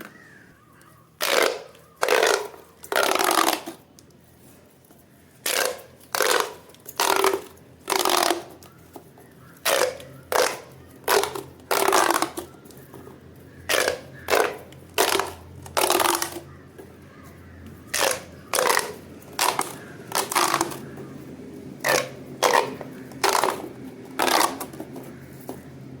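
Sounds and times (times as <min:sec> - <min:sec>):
pop toys crunching: 0:01.1 - 0:04.2, 0:05.4 - 0:13.0, 0:13.6 - 0:16.6, 0:17.9 - 0:21.1, 0:21.8 - 0:25.7.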